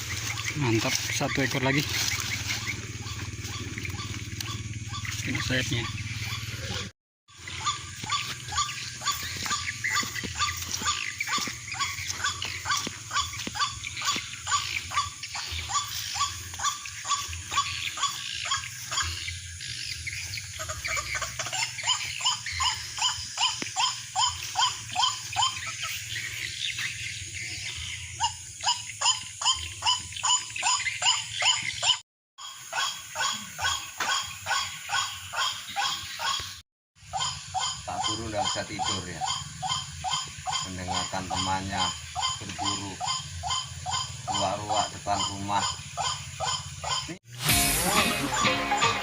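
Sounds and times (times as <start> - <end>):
bird croaking harshly: 0.0 - 49.0.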